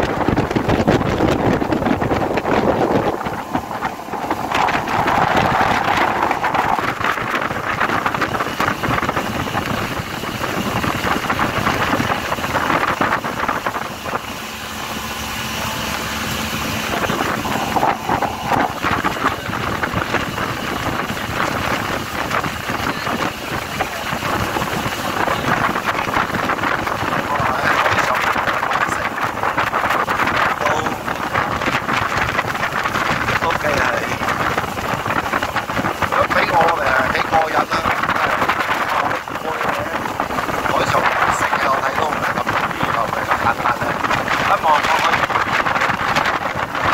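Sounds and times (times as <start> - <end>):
boat engine running: 0.0 - 46.9
wind buffeting microphone: 0.0 - 46.9.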